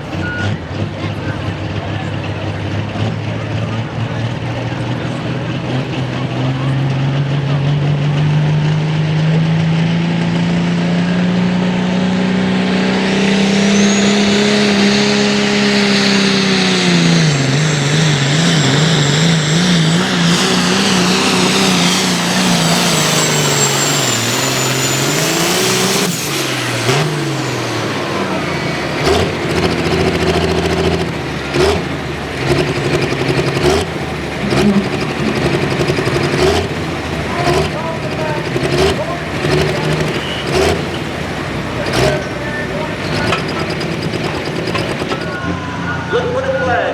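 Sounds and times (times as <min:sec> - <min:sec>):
diesel engine running hard: 0:00.0 - 0:46.9.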